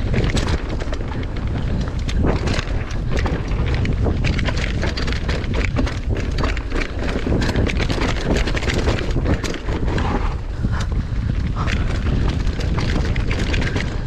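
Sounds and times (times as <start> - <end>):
bike rattling and knocking: 0.0 - 14.0
tyre noise on dirt: 0.0 - 14.0
wind rushing over microphone: 0.0 - 14.0.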